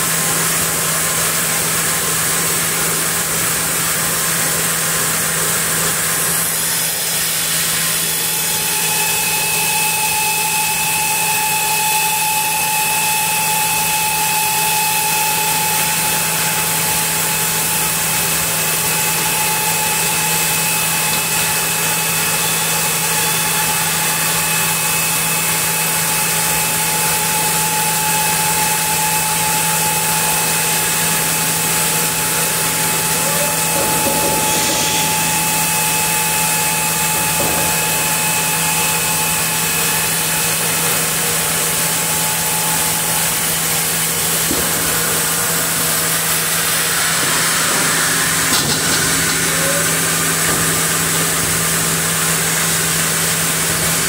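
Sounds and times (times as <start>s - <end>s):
band saw sawing log: 1.1s - 54.0s.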